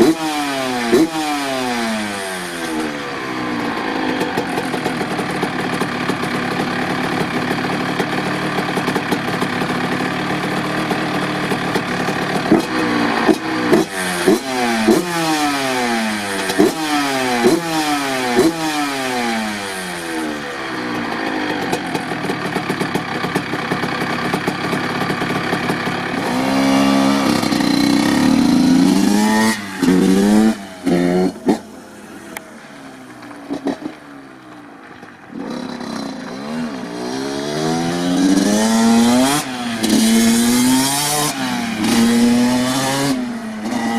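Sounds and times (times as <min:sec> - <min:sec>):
two-stroke engine revving: 0:00.0 - 0:43.9.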